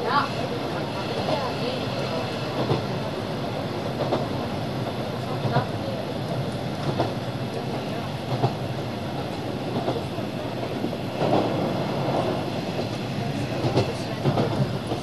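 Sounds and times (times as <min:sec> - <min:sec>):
train running drone: 0:00.0 - 0:15.0.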